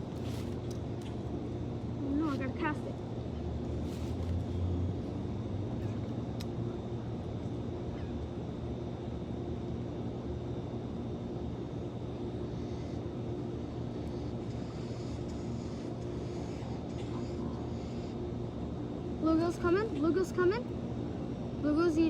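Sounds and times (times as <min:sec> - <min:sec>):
distant motor hum: 0:00.0 - 0:09.8, 0:10.6 - 0:22.0.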